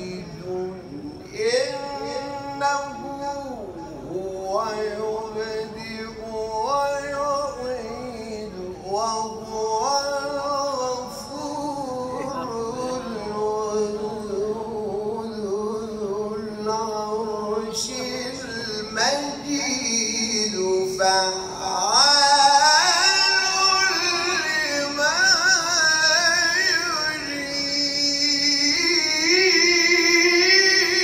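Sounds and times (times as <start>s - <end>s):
man chanting melodically: 0.0s - 31.0s.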